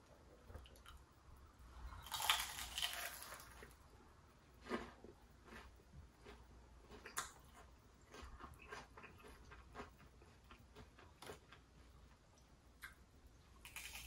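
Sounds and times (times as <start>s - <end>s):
chewing crispy fried chicken: 2.0s - 3.8s, 4.4s - 14.0s.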